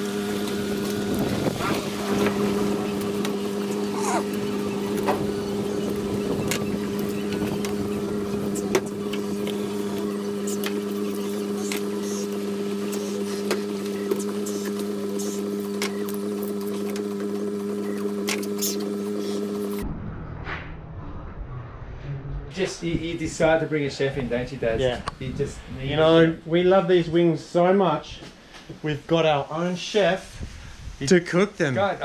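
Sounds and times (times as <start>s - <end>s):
low motor hum: 0.0s - 26.7s.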